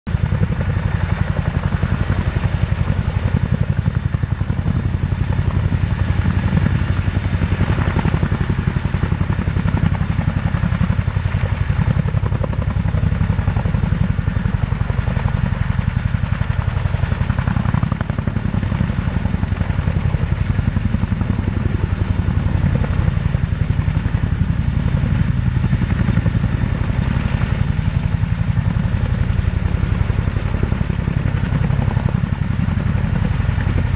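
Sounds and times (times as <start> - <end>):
helicopter rotors thudding: 0.1 - 33.9
helicopter turbine engines: 0.1 - 33.9.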